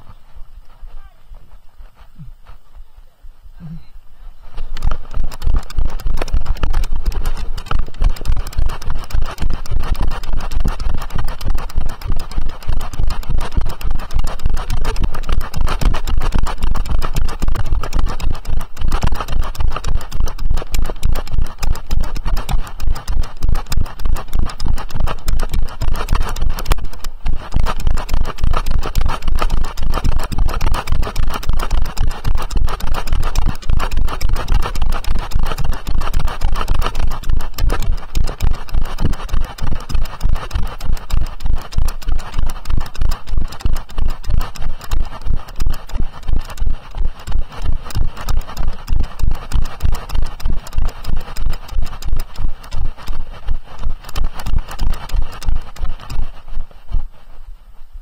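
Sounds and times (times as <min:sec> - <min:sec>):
continuous low rumble: 0:00.0 - 0:58.0
horse hoofbeats on pavement: 0:04.5 - 0:57.1.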